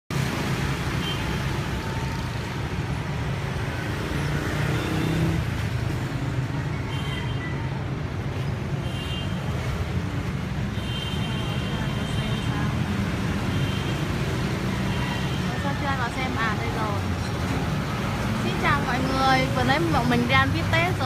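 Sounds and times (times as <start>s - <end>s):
hum of passing traffic: 0.1s - 21.0s.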